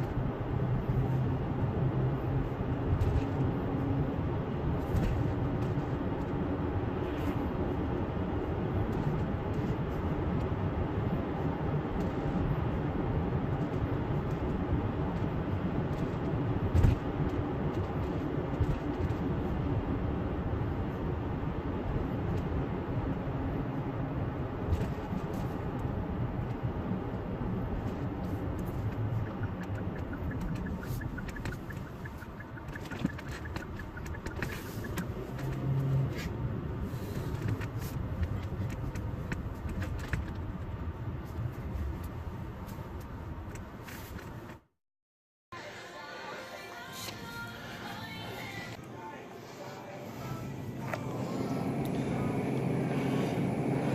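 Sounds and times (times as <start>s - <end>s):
car road and engine noise: 0.0s - 44.8s, 45.7s - 53.9s.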